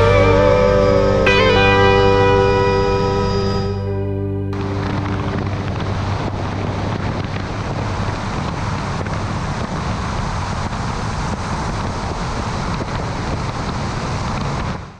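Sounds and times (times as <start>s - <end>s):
tyre and road noise: 0.0s - 14.9s
wind rushing over microphone: 0.0s - 14.9s.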